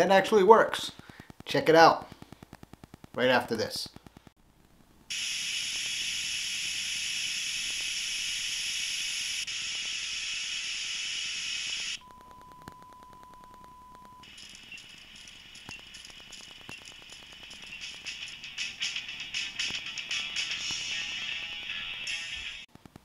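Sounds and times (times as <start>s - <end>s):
television static hiss: 0.0s - 23.0s.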